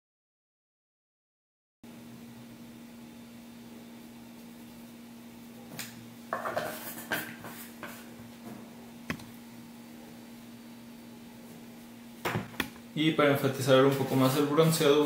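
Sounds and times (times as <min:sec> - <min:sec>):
steady low hum: 0:01.9 - 0:15.0.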